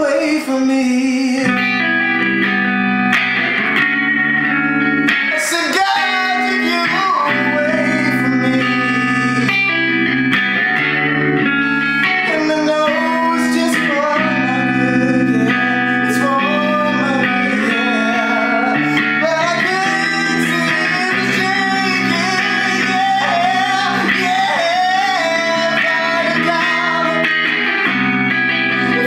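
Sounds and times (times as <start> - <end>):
man singing: 0.0 - 2.1, 5.2 - 10.2, 11.2 - 29.0
electric guitar chords: 0.0 - 29.0.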